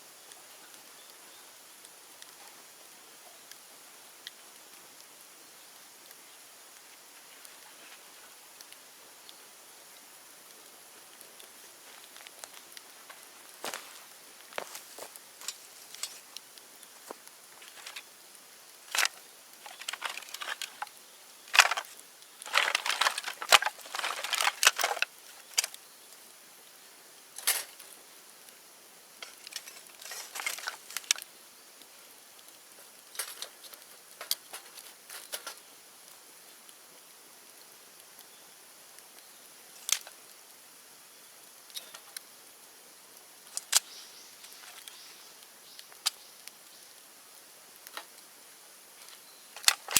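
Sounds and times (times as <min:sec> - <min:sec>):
bonfire crackling and popping: 0:00.1 - 0:49.9.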